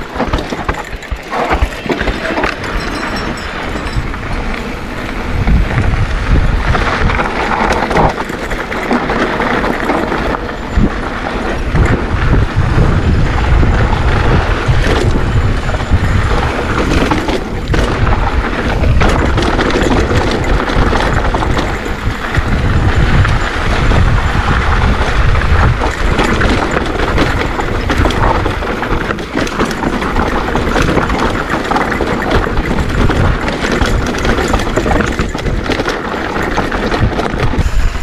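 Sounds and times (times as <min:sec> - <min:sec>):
bike tyres and frame rattling: 0:00.0 - 0:38.0
wind buffeting microphone: 0:00.0 - 0:38.0.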